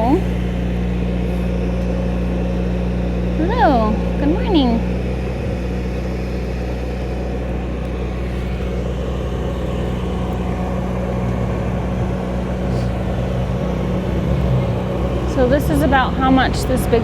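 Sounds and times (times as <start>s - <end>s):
motor humming steadily: 0.0s - 17.0s.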